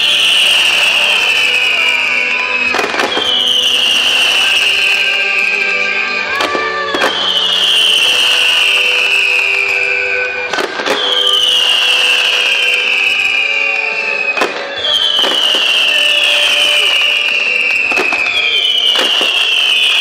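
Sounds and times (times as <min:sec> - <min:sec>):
firework bangs: 0:00.0 - 0:20.0
firework falling whistles: 0:00.0 - 0:20.0
music playing: 0:00.0 - 0:20.0.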